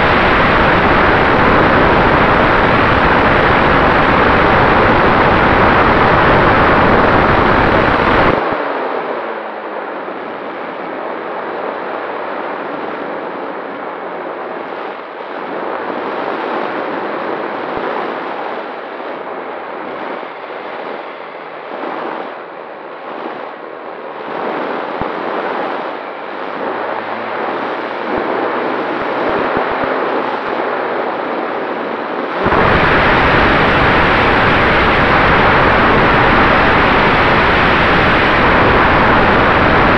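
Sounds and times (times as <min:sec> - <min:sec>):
gusty rush of wind: 0:00.0 - 0:39.9.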